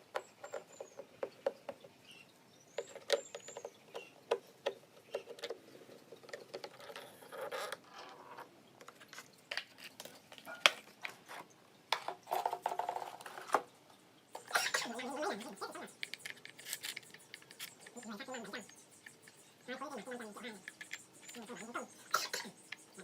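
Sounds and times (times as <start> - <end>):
clicks and knocks of small parts: 2.8 - 13.7, 14.3 - 23.0.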